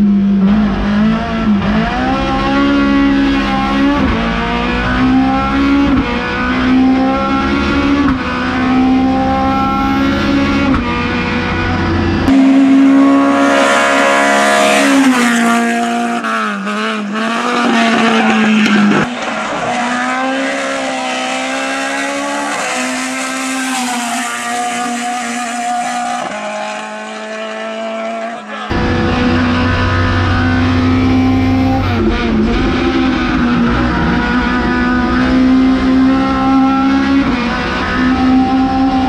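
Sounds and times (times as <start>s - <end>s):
race car engine at high revs: 0.0s - 39.0s.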